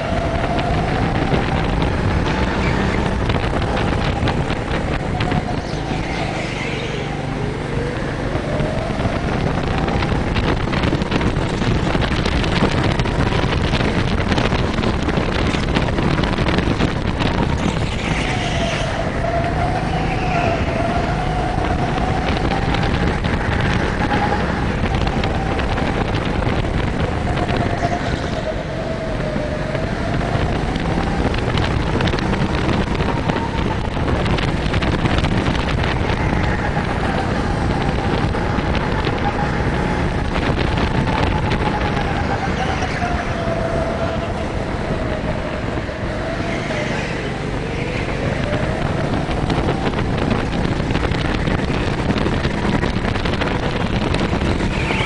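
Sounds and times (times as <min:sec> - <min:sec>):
go-kart motor running hard: 0:00.0 - 0:55.0
wind noise on microphone: 0:00.0 - 0:55.0.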